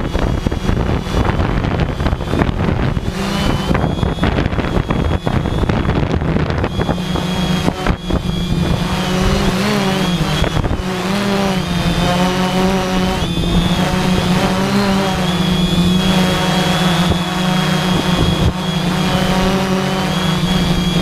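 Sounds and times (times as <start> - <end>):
quadcopter propellers buzzing: 0.0 - 21.0
wind buffeting microphone: 0.0 - 21.0.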